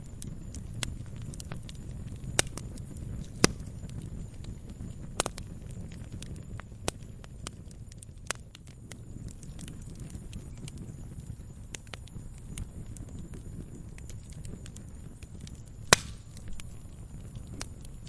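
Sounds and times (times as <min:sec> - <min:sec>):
campfire crackling and popping: 0:00.0 - 0:18.0
low rumble of burning fire: 0:00.0 - 0:18.0.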